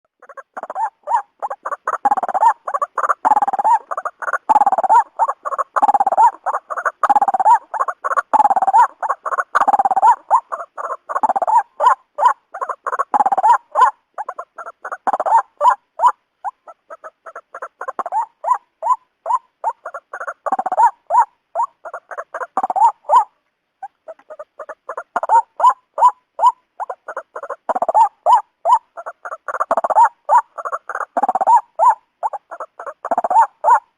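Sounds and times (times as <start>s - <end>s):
waterhen calling: 0.1s - 33.9s.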